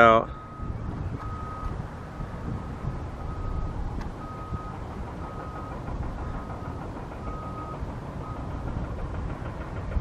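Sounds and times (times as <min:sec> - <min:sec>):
reversing alarm beeping: 0:00.2 - 0:08.6.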